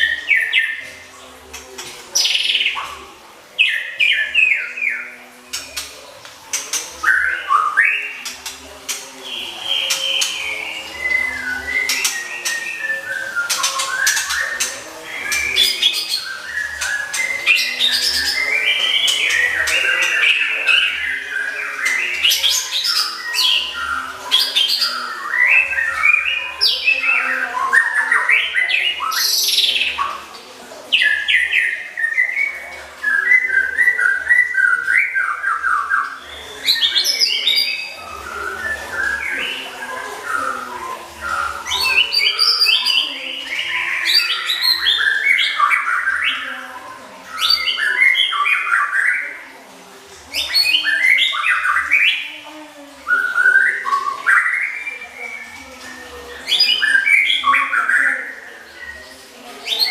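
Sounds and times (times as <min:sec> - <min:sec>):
bird chirps trills and whistles: 0:00.0 - 0:59.9.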